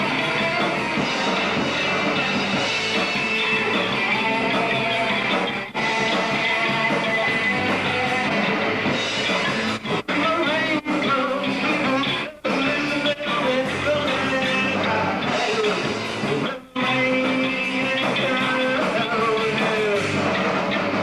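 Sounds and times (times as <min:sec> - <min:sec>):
hard rock band playing live: 0:00.0 - 0:21.0.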